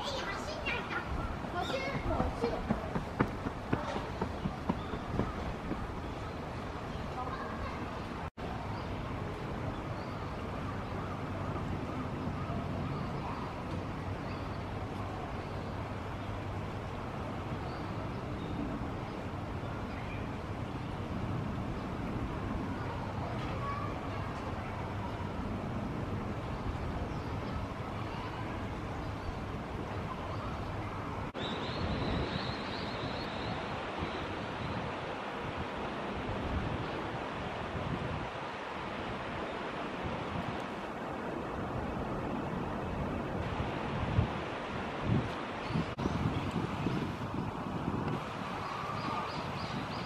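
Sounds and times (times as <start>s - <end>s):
distant traffic hum: 0.0s - 50.0s
stream water flowing: 0.0s - 50.0s
wind noise on microphone: 0.0s - 50.0s.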